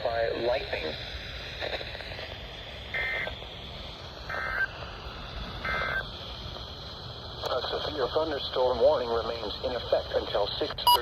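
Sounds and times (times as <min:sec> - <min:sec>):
buzzy digital data bursts: 0:00.0 - 0:11.0
radio hiss: 0:00.0 - 0:11.0.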